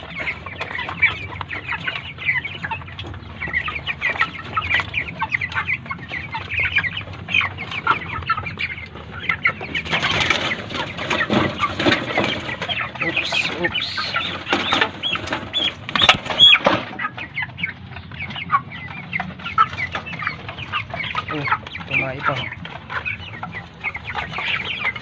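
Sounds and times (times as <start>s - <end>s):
chickens cheeping and clucking: 0.0s - 25.0s
chickens commotion: 0.0s - 25.0s.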